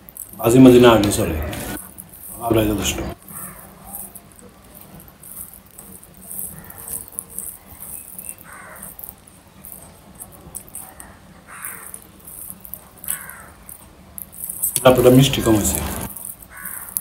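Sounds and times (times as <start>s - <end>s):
fingers squeezing food on plate: 0.0s - 17.0s.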